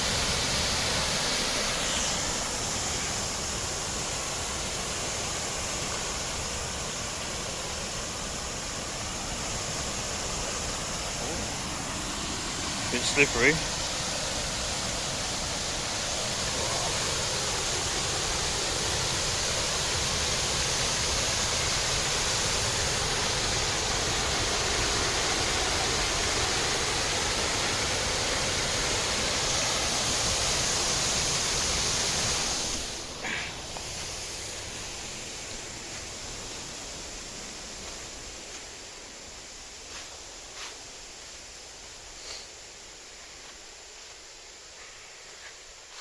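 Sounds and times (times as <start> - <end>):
rushing water: 0.0 - 46.0.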